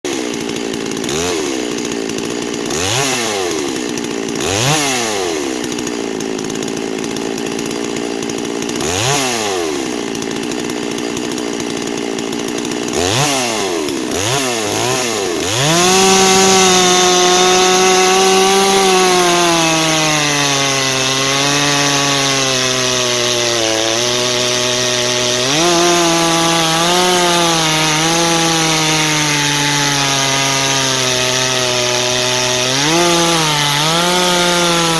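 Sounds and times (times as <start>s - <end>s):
chainsaw cutting log: 0.0s - 34.9s
chainsaw idling and revving: 0.0s - 34.9s.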